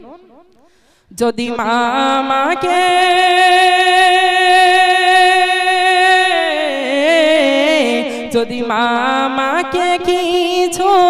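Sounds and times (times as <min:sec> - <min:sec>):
man singing into a microphone: 0:01.1 - 0:11.0.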